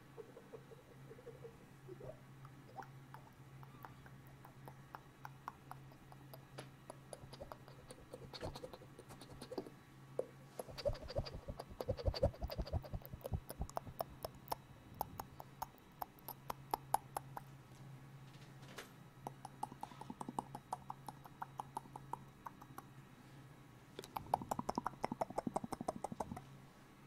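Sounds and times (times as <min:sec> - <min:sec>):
wet mouth clicks: 0:00.2 - 0:17.5, 0:19.2 - 0:22.9, 0:24.0 - 0:26.5.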